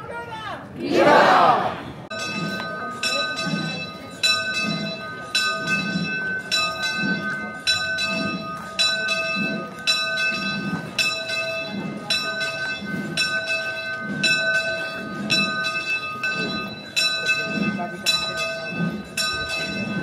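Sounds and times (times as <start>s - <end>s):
church bell ringing: 2.1s - 20.0s.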